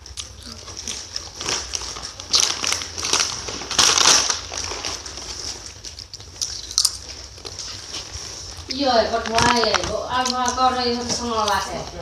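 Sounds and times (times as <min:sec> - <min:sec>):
snack chips crunching: 0:00.0 - 0:11.7.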